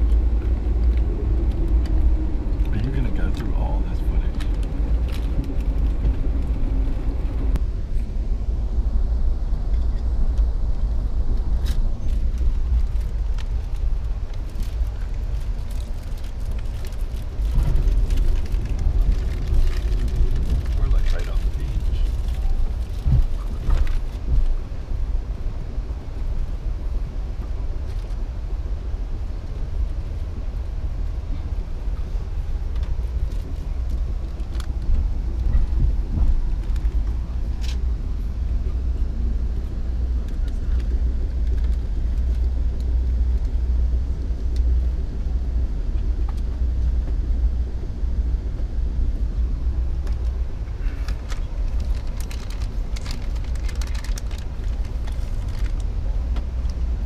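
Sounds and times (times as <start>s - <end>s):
passenger train rumbling: 0.0s - 57.0s.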